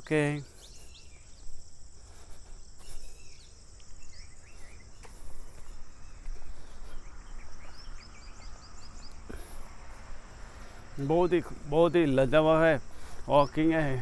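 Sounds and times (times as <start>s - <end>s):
bird chirps: 0.0s - 14.0s
insects droning: 0.0s - 14.0s.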